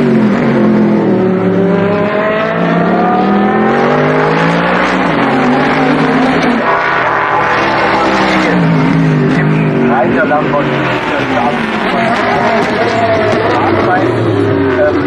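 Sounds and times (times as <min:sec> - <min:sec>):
race cars accelerating past: 0:00.0 - 0:15.0.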